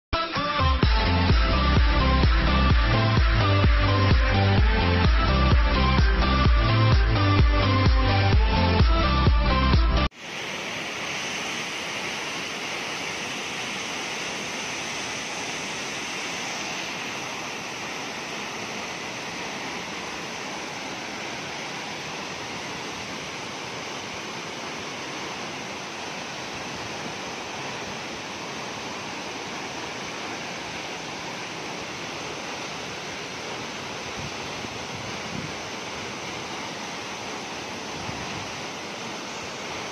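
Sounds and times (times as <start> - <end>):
waterfall rushing: 0.4 - 39.9.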